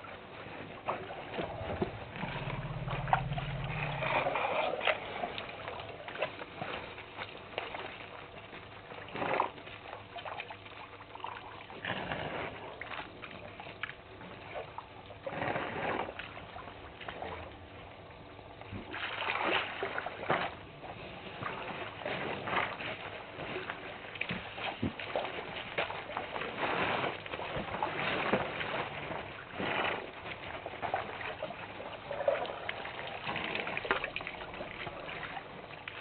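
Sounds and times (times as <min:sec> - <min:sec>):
water splashing and sloshing: 0:00.0 - 0:36.0.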